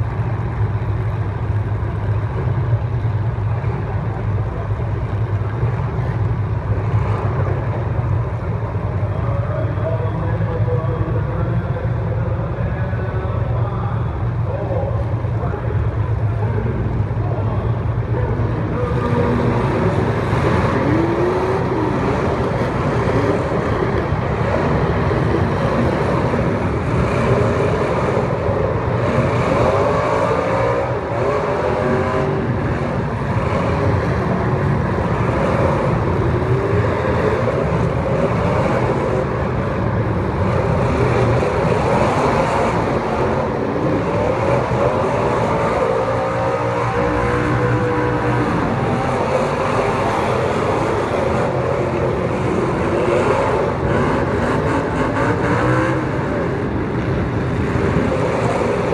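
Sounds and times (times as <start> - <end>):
race car engines: 0.0 - 58.9.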